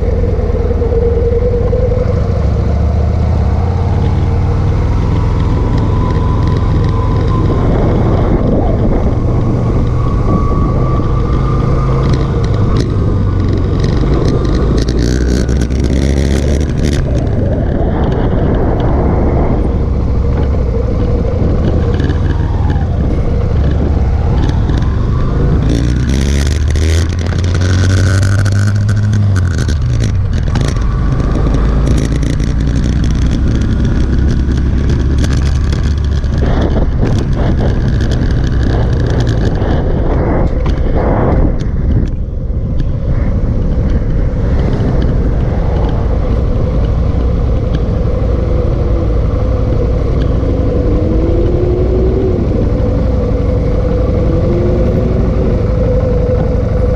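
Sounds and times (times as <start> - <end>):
motorcycle engine accelerating: 0.0 - 56.9
wind rushing over microphone: 0.0 - 56.9.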